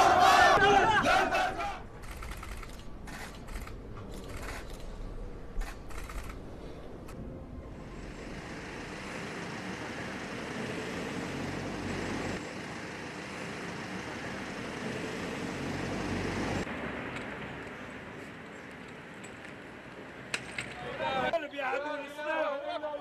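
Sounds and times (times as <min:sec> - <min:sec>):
road traffic hum: 0:00.0 - 0:21.4.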